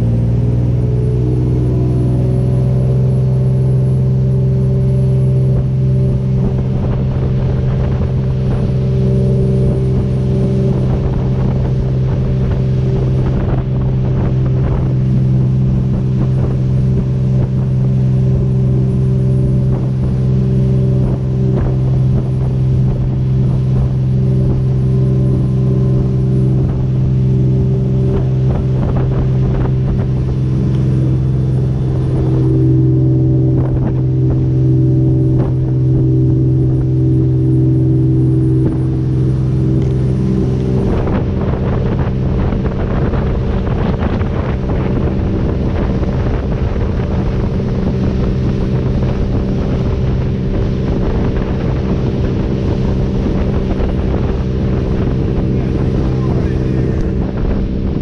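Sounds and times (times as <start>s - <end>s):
boat engine running: 0.0s - 58.0s
wind noise on microphone: 0.0s - 58.0s.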